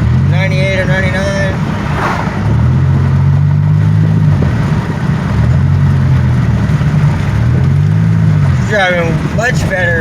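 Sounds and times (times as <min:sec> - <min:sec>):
car engine revving: 0:00.0 - 0:10.0
road noise: 0:00.0 - 0:10.0.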